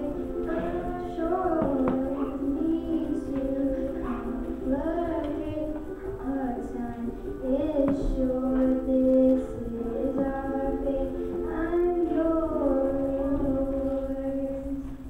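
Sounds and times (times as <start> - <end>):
ukulele: 0.0 - 14.8
girl singing: 0.0 - 15.0.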